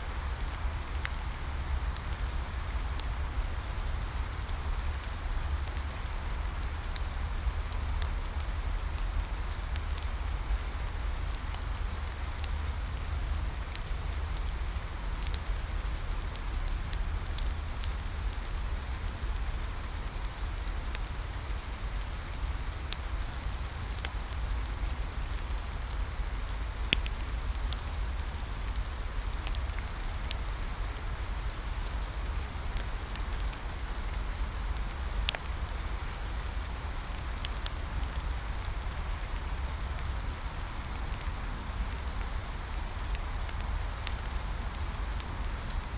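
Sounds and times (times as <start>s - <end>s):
steady rain falling: 0.0s - 45.9s
wood fire crackling: 0.1s - 45.9s.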